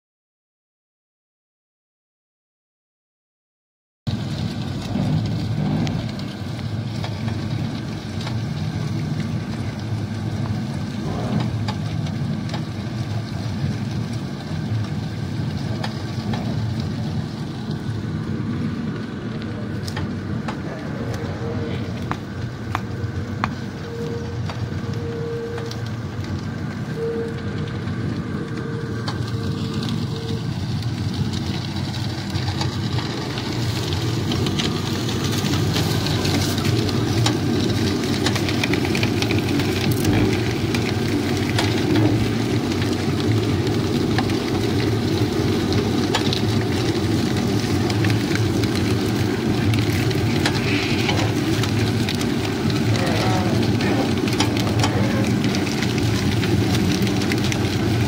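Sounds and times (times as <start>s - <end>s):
cane stalks crackling: 4.1s - 58.0s
sugarcane crusher droning: 4.1s - 58.0s.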